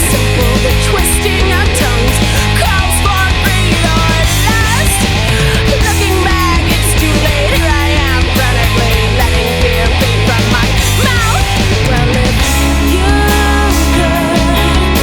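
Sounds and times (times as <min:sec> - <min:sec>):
loud rock music: 0:00.0 - 0:15.0.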